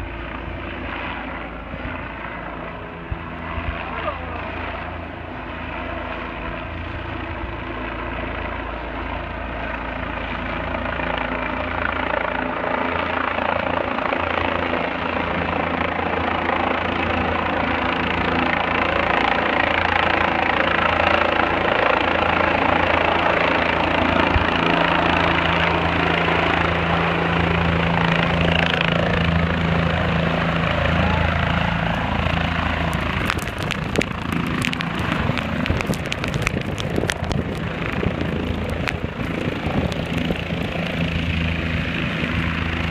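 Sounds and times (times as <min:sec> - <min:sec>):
helicopter rotor: 0:00.0 - 0:42.9.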